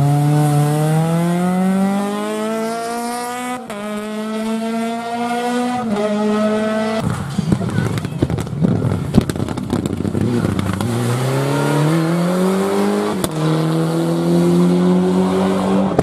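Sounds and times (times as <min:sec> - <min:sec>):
rally car engine revving: 0:00.0 - 0:07.2, 0:09.3 - 0:16.0.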